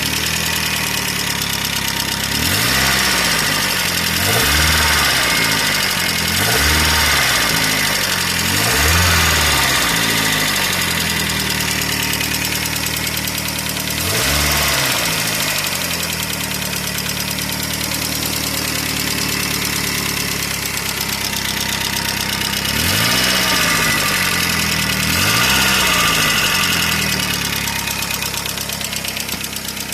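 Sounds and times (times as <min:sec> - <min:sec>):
car engine idling and revving: 0:00.0 - 0:29.9
engine knock: 0:00.0 - 0:29.9.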